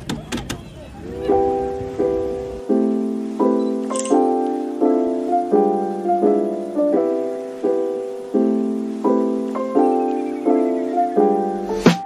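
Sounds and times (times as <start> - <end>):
piano chords: 1.0 - 12.0.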